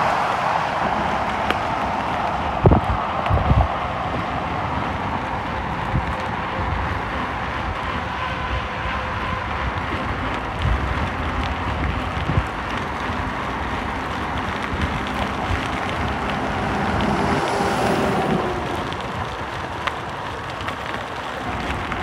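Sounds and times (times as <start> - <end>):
steady rumble: 0.0 - 22.0
wind buffeting microphone: 0.0 - 22.0.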